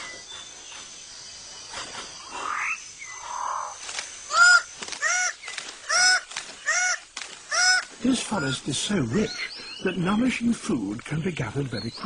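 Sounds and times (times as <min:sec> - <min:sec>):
insects humming: 0:00.0 - 0:12.0.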